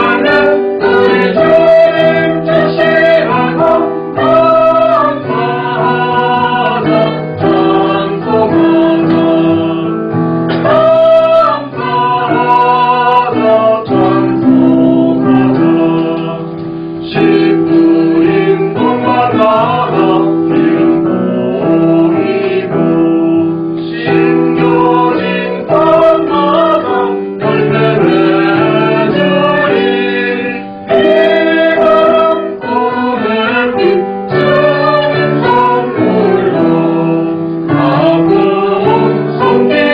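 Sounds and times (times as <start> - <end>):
choir singing a hymn: 0.0 - 39.9
instrumental accompaniment: 0.0 - 39.9.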